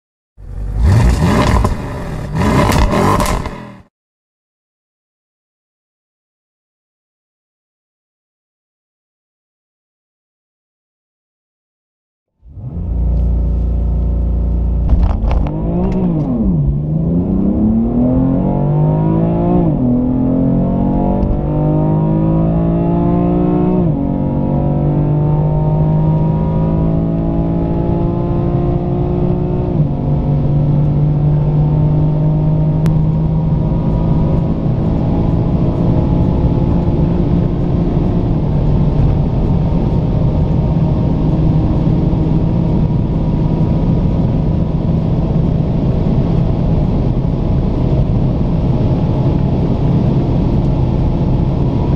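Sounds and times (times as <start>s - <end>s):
car engine at full throttle: 0.4s - 3.9s, 12.4s - 51.9s.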